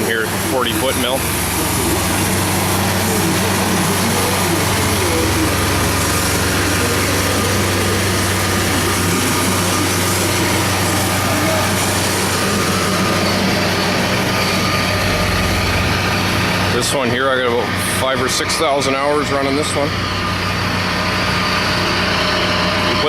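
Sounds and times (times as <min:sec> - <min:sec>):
large engine running steadily: 0:00.0 - 0:23.0.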